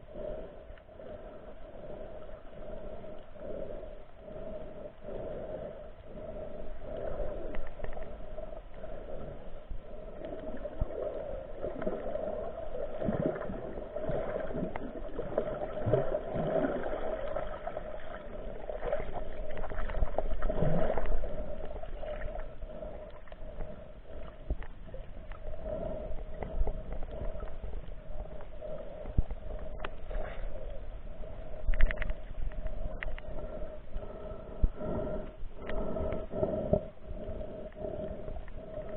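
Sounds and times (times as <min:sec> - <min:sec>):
steady hum: 0:00.0 - 0:38.9
underwater gurgling: 0:00.1 - 0:38.9.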